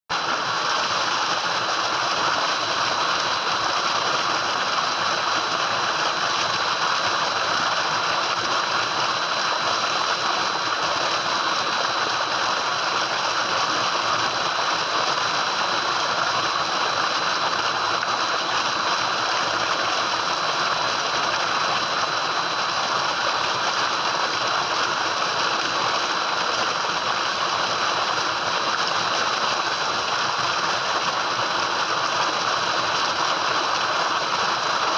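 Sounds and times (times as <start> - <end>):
water gushing into a tank: 0.1 - 34.9.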